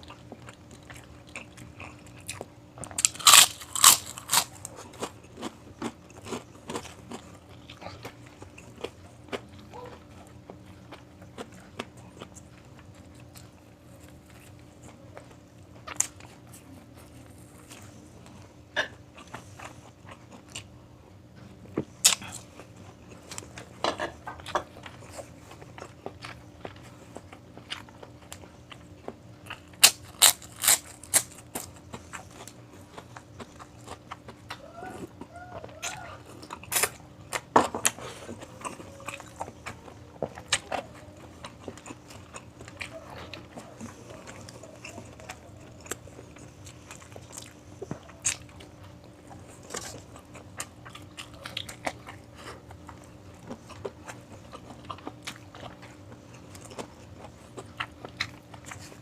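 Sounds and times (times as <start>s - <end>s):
crunchy chewing of fried food: 0.0s - 59.0s
faint steady hum: 0.0s - 59.0s.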